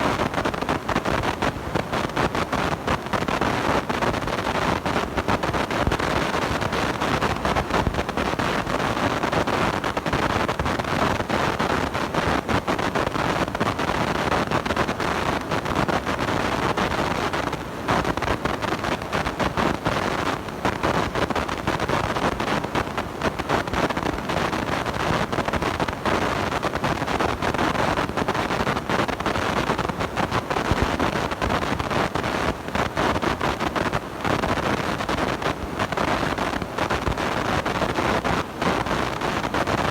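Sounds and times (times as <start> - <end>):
distorting microphone crackling: 0.0 - 39.9.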